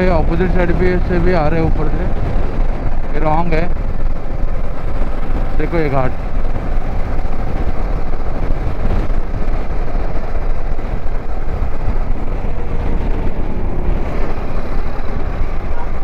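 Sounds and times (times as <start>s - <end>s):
motorcycle engine: 0.0s - 16.0s
wind rumble on microphone: 0.0s - 16.0s.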